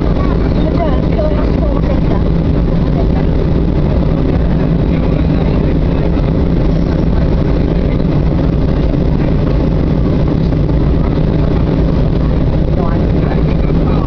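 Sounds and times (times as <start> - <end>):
jet engines heard from cabin: 0.0 - 14.0.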